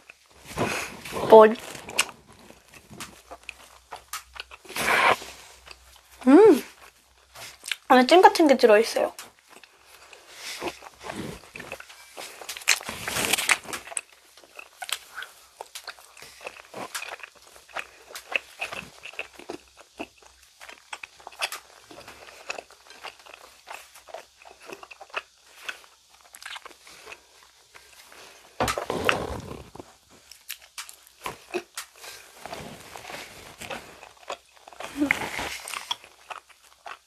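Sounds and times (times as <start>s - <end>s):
child chewing gummy candy: 0.0s - 37.0s.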